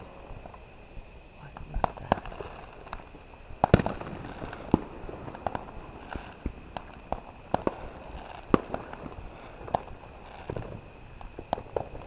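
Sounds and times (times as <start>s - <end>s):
distant fireworks bangs: 0.0s - 12.0s
steady hiss: 0.0s - 12.0s.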